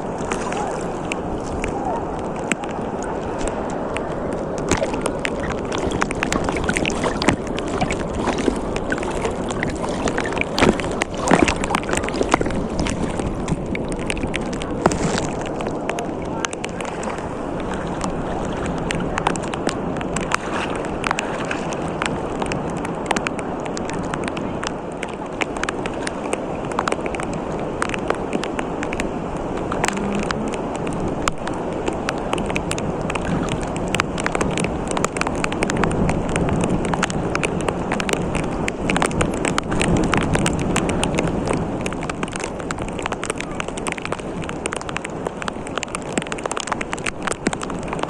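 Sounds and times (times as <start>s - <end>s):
rain rushing: 0.0s - 48.0s
raindrops tapping: 0.0s - 48.0s.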